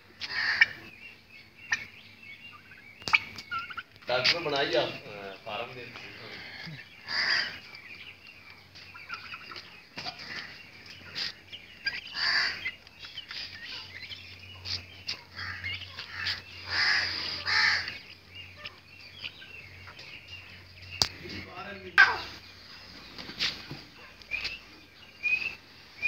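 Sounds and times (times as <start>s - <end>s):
birds calling and chirping: 0.0s - 26.0s.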